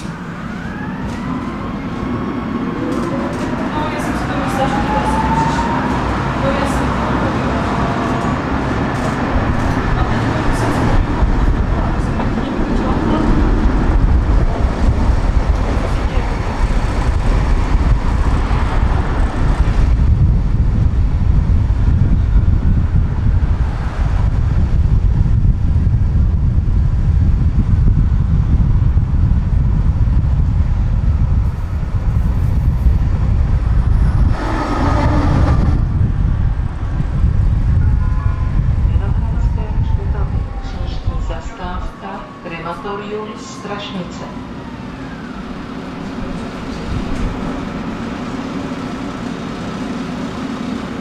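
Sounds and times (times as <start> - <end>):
tram wheels rumbling on rails: 0.0 - 51.0.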